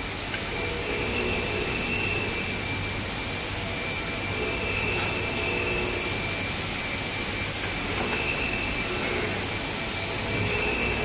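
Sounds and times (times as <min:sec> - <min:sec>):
machine running with low hum: 0:00.0 - 0:11.0
thin high whine: 0:00.0 - 0:11.0.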